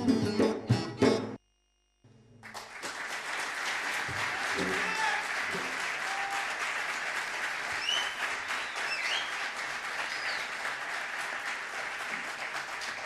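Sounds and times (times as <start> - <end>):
audience applauding: 2.4 - 13.0.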